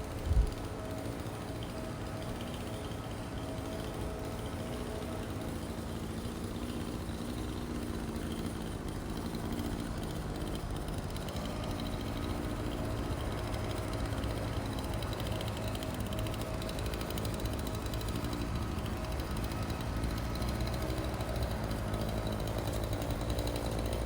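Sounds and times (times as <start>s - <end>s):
string trimmer engine idling: 0.0s - 24.0s.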